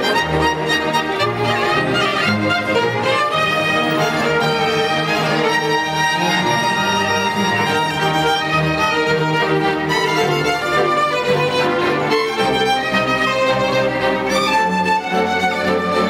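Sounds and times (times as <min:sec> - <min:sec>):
string orchestra playing: 0:00.0 - 0:16.0.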